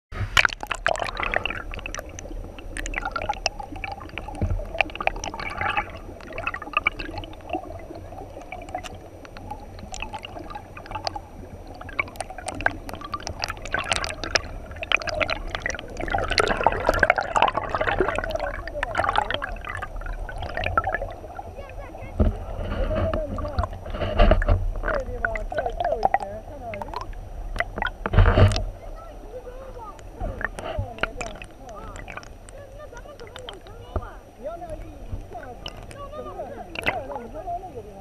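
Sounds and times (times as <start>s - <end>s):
underwater river gurgling: 0.1s - 38.0s
small crackling clicks and pops: 0.2s - 21.4s, 22.2s - 28.8s, 29.8s - 37.3s.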